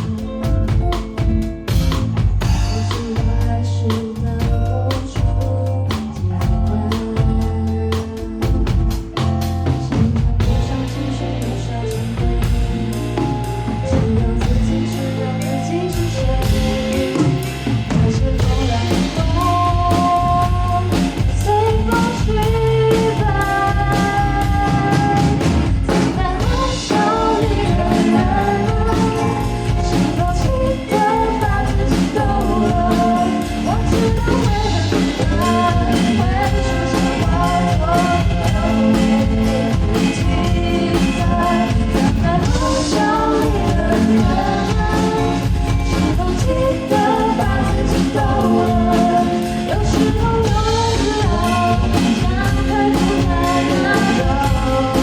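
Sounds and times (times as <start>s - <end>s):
drum kit beat: 0.0s - 55.0s
person singing: 0.0s - 55.0s
rock band playing: 0.0s - 55.0s.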